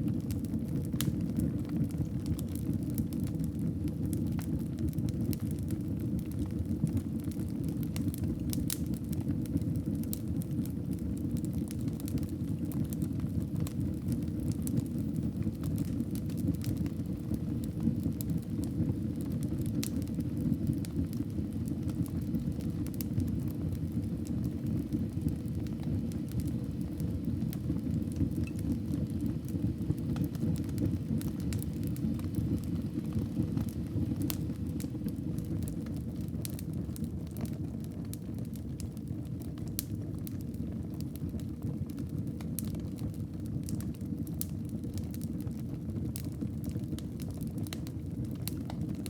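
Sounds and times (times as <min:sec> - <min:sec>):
low rumble of flames: 0:00.0 - 0:49.0
wood crackling and popping: 0:00.0 - 0:49.0.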